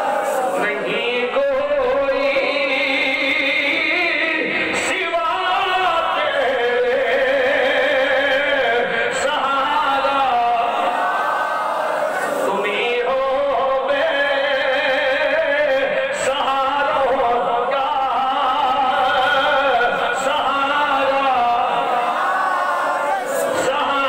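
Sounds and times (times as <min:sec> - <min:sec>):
man chanting through a microphone: 0:00.0 - 0:24.0.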